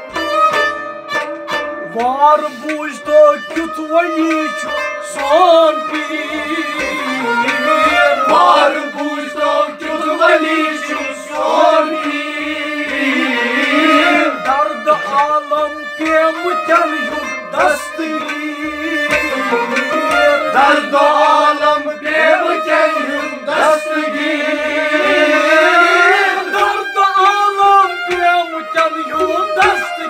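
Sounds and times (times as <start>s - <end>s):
bowed and plucked strings with harmonium: 0.0s - 30.0s
clay pot drum beat: 0.0s - 30.0s.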